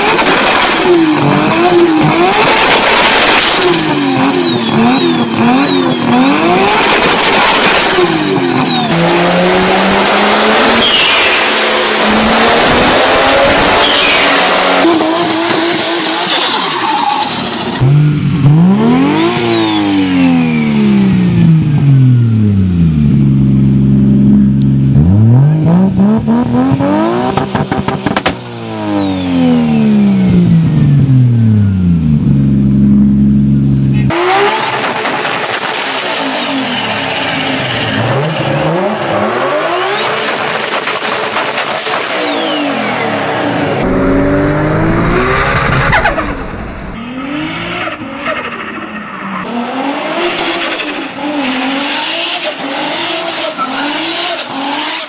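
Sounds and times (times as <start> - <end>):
turbocharged car engine revving: 0.0 - 55.0.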